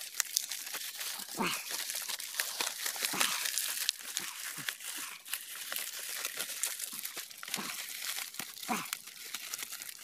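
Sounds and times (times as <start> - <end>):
leaves crumpled and rustled: 0.0 - 10.0.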